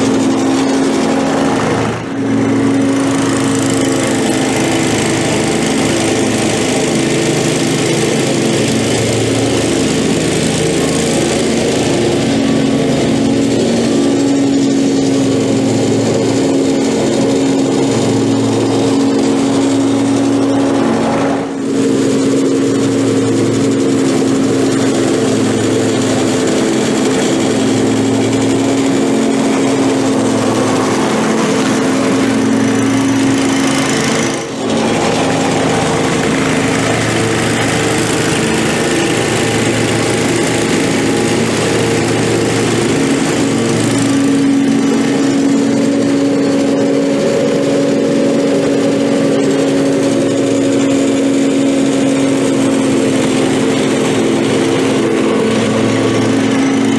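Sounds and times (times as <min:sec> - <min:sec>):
lawn mower engine running: 0:00.0 - 0:56.9.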